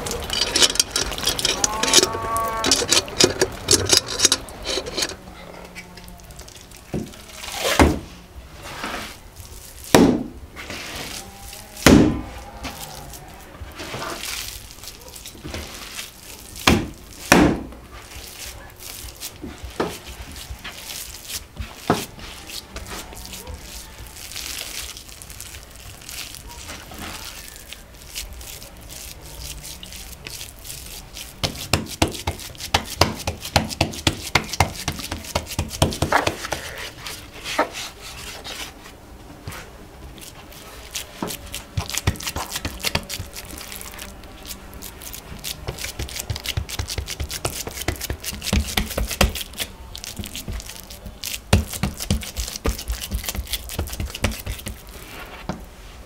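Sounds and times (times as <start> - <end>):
meat squelching: 0.0 - 7.8, 11.0 - 38.8, 39.6 - 55.3.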